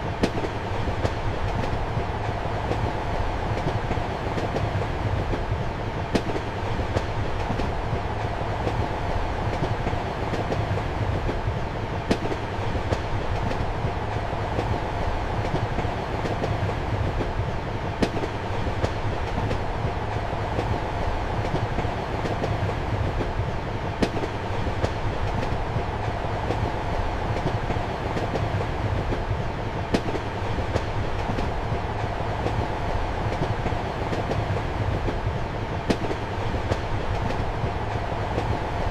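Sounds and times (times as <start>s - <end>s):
train rumble and hum: 0.0s - 38.9s.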